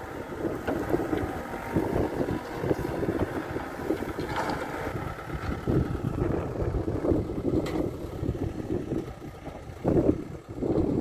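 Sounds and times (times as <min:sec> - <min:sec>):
diesel engine under load: 0:00.0 - 0:11.0
wind buffeting microphone: 0:00.0 - 0:11.0.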